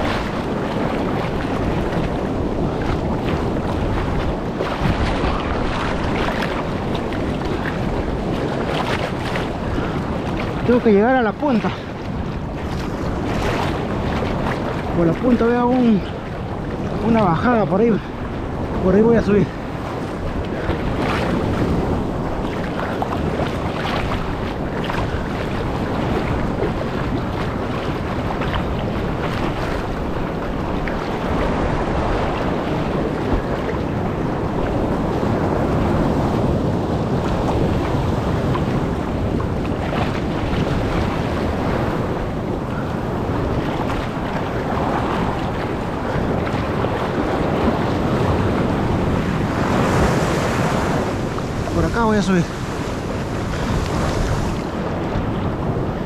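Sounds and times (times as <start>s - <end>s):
ocean surf on rocky shore: 0.0s - 56.0s
wind buffeting microphone: 0.0s - 56.0s.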